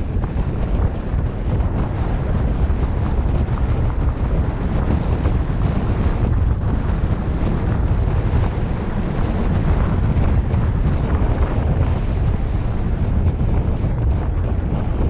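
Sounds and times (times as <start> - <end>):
bike rattling on trail: 0.0 - 15.0
low rumble: 0.0 - 15.0
wind buffeting microphone: 0.0 - 15.0.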